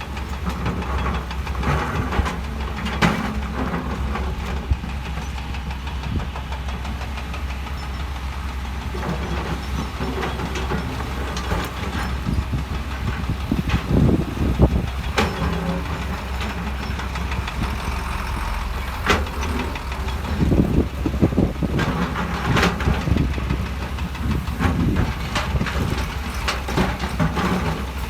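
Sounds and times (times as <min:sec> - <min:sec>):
diesel machinery engine hum: 0:00.0 - 0:28.0.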